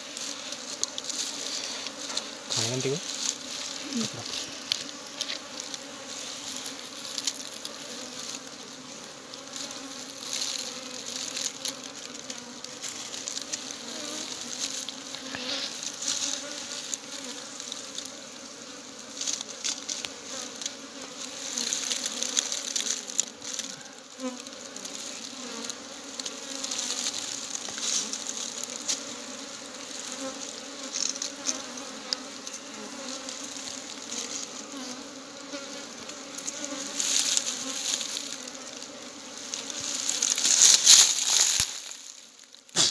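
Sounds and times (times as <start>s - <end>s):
comb and dry leaves crackling: 0.0s - 18.2s, 19.1s - 31.6s, 32.4s - 34.8s, 36.3s - 42.8s
honeybees buzzing: 0.0s - 42.9s.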